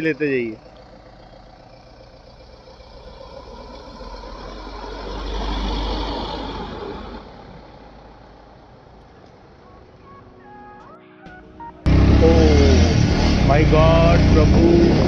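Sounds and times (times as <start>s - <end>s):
motorcycle engine and road noise: 0.0s - 9.6s, 11.8s - 15.0s.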